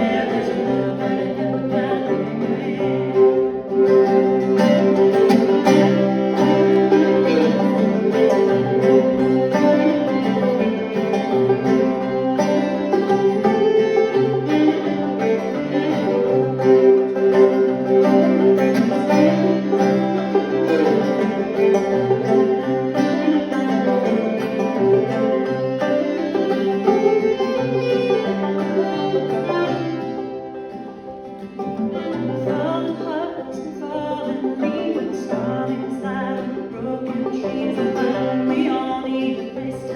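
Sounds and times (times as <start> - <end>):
banjo and fiddle string band: 0.0 - 39.9.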